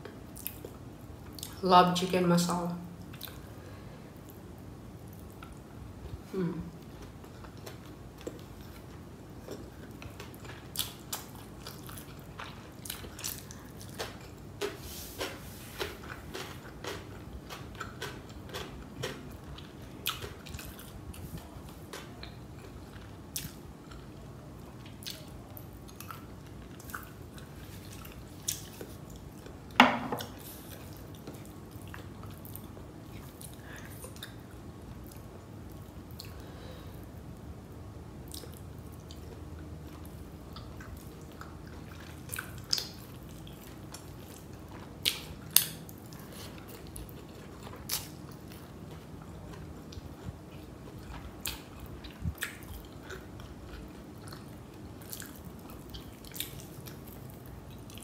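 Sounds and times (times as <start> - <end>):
chewing and wet mouth sounds: 0.0 - 1.6, 3.0 - 3.5, 5.0 - 37.4, 38.2 - 58.0.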